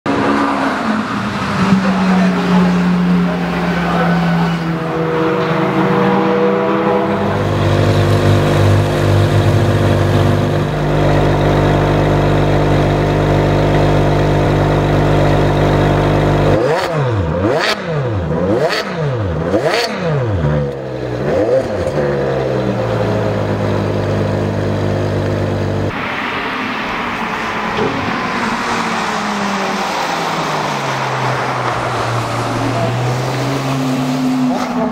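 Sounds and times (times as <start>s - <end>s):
car engine idling and revving: 0.0s - 34.9s
distant car on track: 0.0s - 34.9s.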